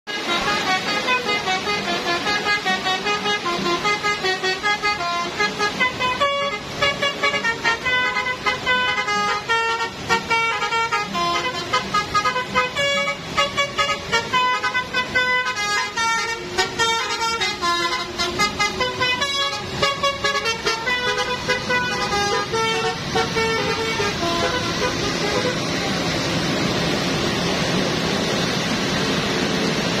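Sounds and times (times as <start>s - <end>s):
bus musical horn playing tune: 0.1s - 26.0s
bus engine: 0.1s - 30.0s
rain rushing: 0.1s - 30.0s.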